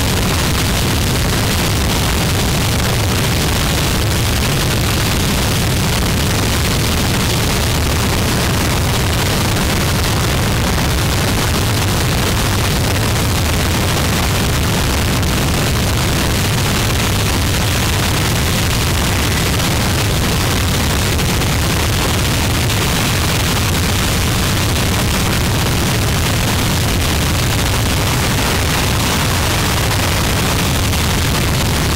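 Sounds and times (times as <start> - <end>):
harsh static noise music: 0.0 - 31.9
heavy low rumble: 0.0 - 31.9.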